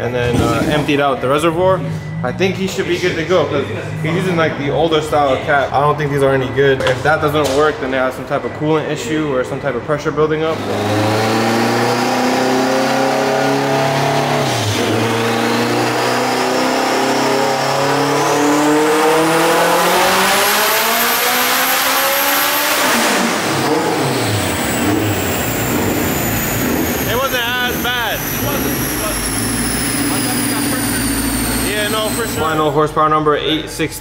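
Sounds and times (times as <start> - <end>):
car engine revving at full throttle: 0.0 - 8.6, 9.4 - 33.5.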